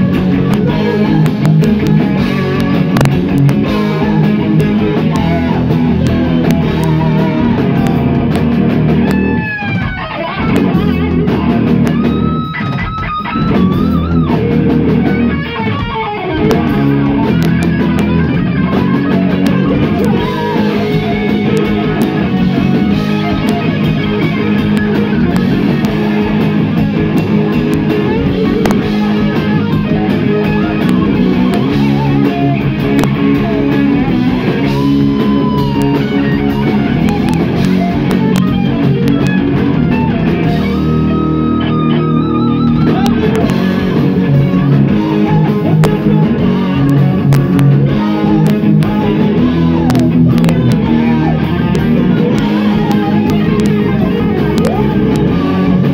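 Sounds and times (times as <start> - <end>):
live rock band playing: 0.0 - 55.9
held wavering guitar note: 9.0 - 55.9.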